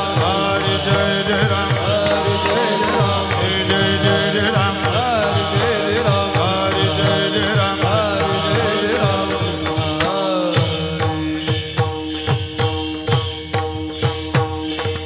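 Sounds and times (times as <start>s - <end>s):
steady held drone: 0.0s - 12.2s
person singing devotional song: 0.0s - 13.6s.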